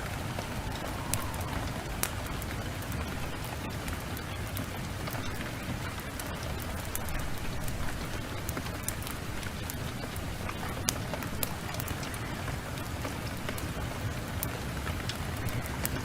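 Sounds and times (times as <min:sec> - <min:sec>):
heavy rain downpour: 0:00.0 - 0:16.0
wood fire crackling and popping: 0:00.0 - 0:16.0.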